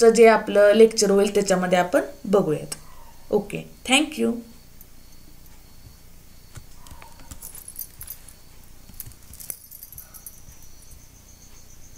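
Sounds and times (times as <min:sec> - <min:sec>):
crickets chirping: 0:00.0 - 0:11.9.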